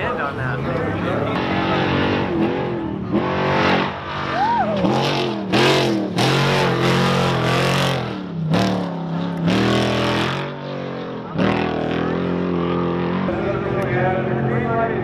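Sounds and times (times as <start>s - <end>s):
truck engine revving at full throttle: 0.0s - 15.0s.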